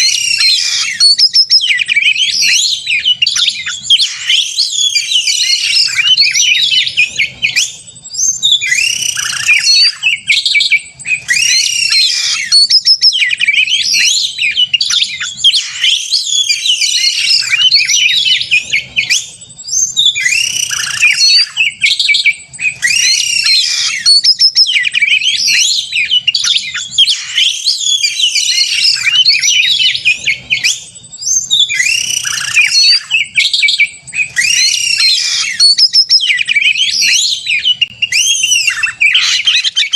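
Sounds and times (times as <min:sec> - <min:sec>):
bird singing whistles and harsh notes: 0:00.0 - 0:39.9.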